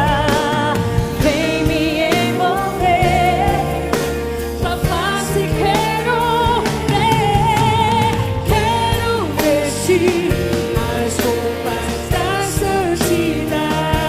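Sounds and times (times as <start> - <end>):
bass: 0.0 - 14.0
keyboard chords: 0.0 - 14.0.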